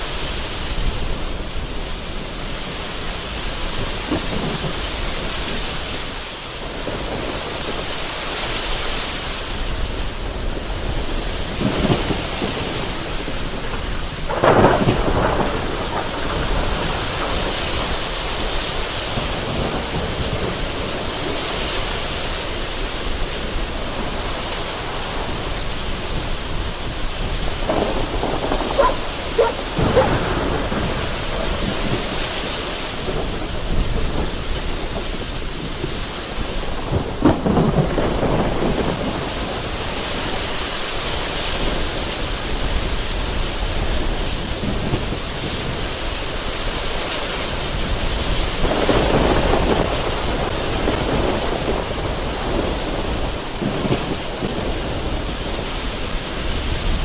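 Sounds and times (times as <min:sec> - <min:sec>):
gusty wind: 0:00.0 - 0:57.0
heavy rain on a window: 0:00.0 - 0:57.0
thunder rumbling: 0:00.0 - 0:57.0.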